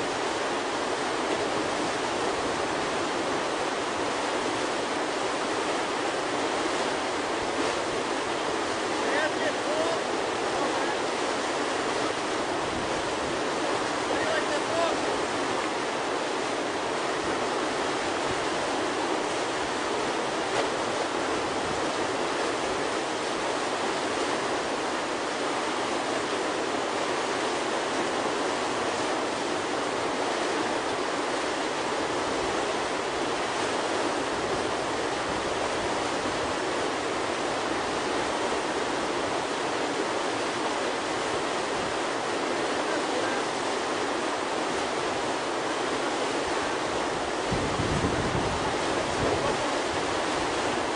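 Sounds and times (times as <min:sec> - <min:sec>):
whitewater rushing: 0:00.0 - 0:50.9.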